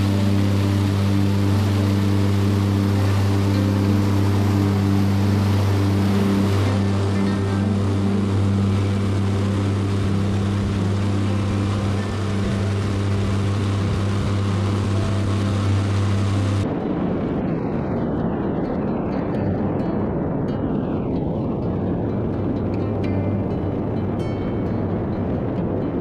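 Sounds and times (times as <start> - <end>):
air rushing over microphone: 0.0 - 26.0
turboprop engine drone: 0.0 - 26.0.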